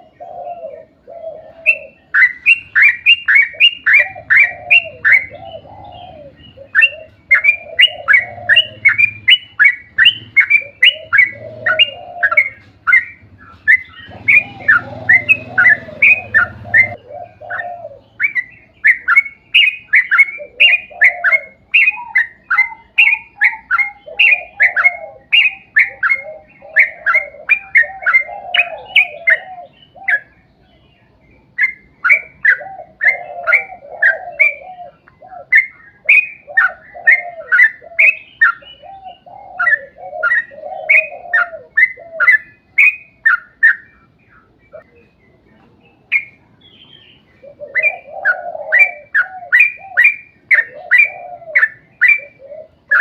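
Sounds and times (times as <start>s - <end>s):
bulbul chattering song: 0.0s - 53.0s
low bird warbling: 0.0s - 53.0s.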